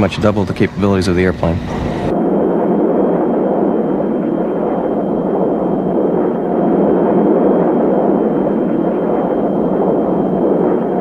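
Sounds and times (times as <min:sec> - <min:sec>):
jet aircraft passing overhead: 0:00.0 - 0:11.0.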